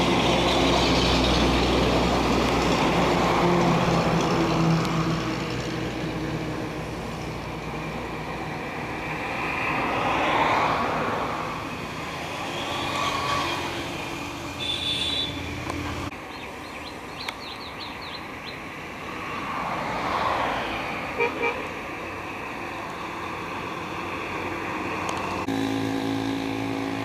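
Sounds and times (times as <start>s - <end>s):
vehicle engines droning and passing: 0.0s - 27.0s.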